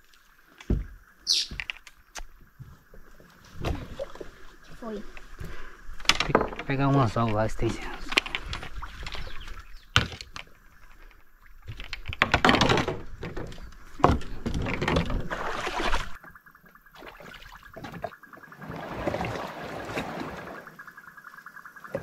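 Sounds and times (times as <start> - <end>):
paddle strokes and splashing water: 2.4 - 22.0.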